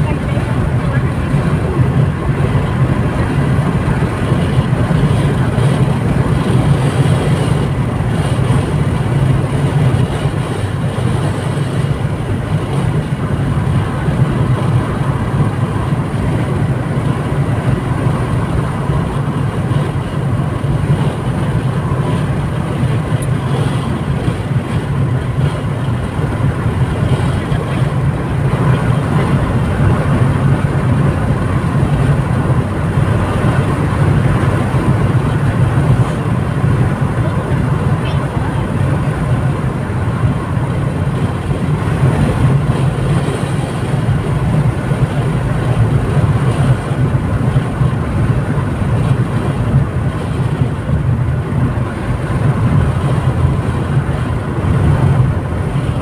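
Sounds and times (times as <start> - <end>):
car driving at highway speed: 0.0 - 56.0.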